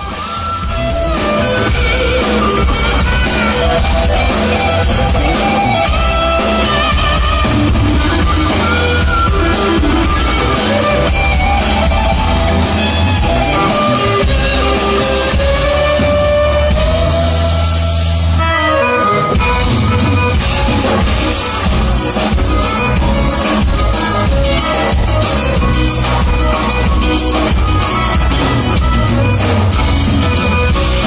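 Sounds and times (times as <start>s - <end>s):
band playing music: 0.0s - 31.0s.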